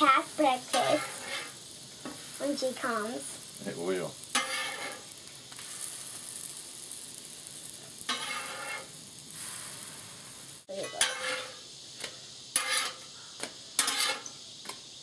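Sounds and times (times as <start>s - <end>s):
batter sizzling on a griddle: 0.0s - 15.0s
metal spatula scraping griddle: 0.4s - 2.7s, 4.2s - 6.6s, 7.2s - 14.8s.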